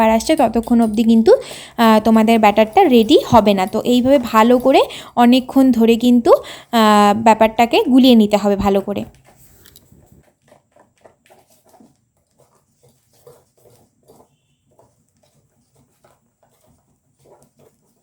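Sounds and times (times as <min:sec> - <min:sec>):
batter beaten in a bowl: 0:00.0 - 0:18.0.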